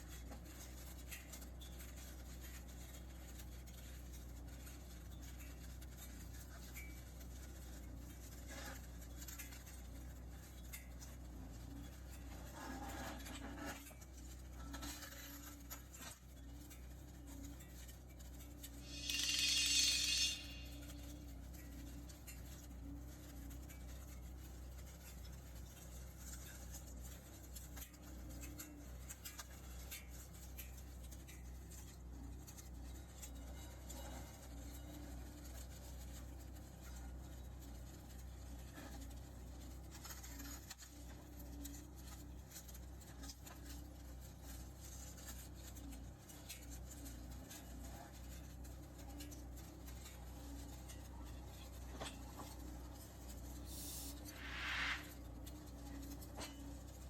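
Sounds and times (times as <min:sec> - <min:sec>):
wire scratching and rattling: 0:00.0 - 0:57.0.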